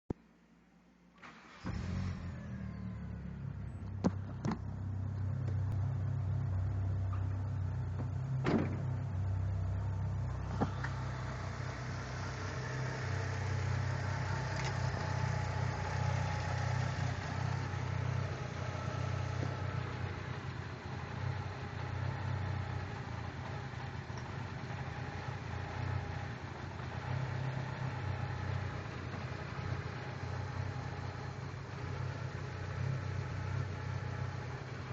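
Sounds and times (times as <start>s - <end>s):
car engine starting and idling: 1.0s - 34.9s.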